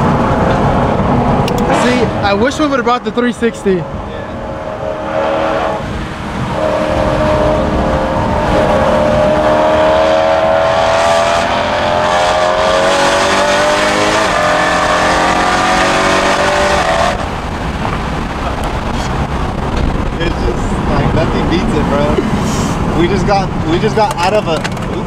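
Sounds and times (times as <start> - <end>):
car engine under throttle: 0.0 - 25.0.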